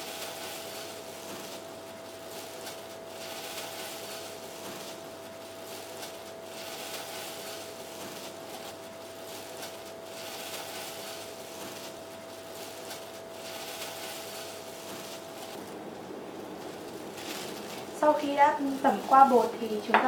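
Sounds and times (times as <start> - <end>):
breadcrumbs rustling: 0.0 - 20.0
plastic glove crinkling: 0.0 - 20.0.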